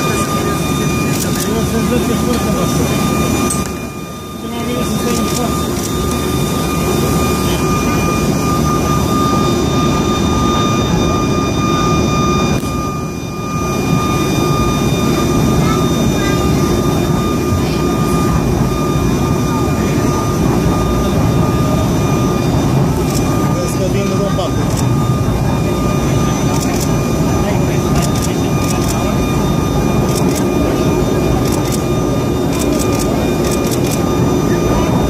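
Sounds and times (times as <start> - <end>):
high engine whine: 0.0 - 35.0
turboprop engine drone: 0.0 - 35.0.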